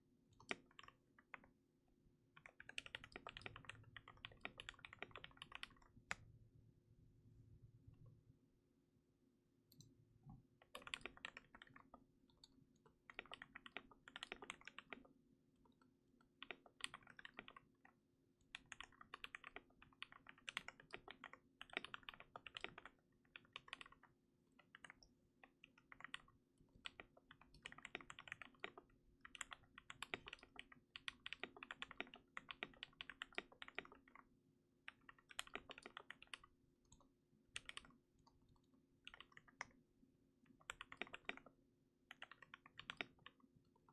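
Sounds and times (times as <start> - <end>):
typing on mechanical keyboard: 0.4 - 1.5, 2.4 - 5.9, 10.6 - 15.1, 16.3 - 38.0, 38.6 - 39.8, 40.5 - 43.9.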